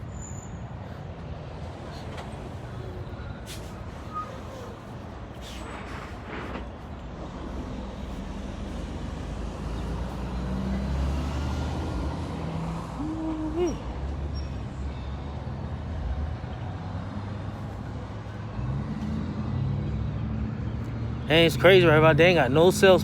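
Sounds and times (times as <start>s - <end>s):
road traffic: 0.0s - 23.0s
vehicle engine rumble: 0.0s - 23.0s.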